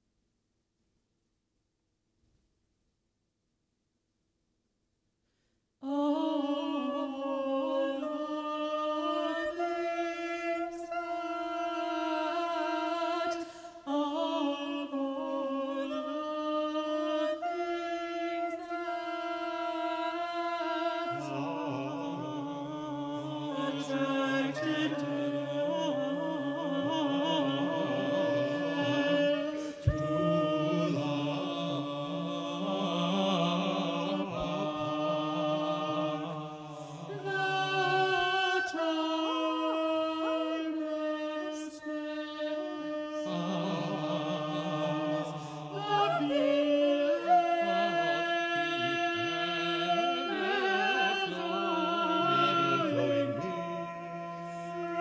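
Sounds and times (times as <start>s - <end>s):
vocal ensemble singing held chords: 5.8s - 55.0s.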